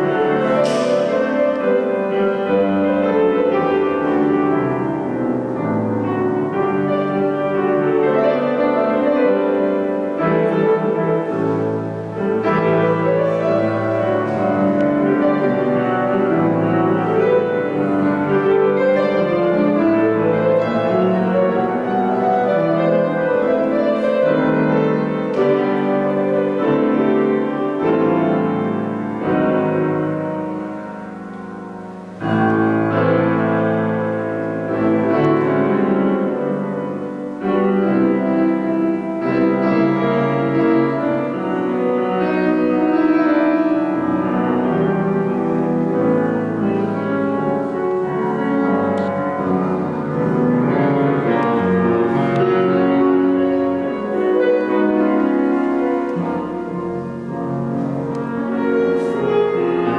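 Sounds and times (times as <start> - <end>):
grand piano playing slow piece: 0.0 - 59.9.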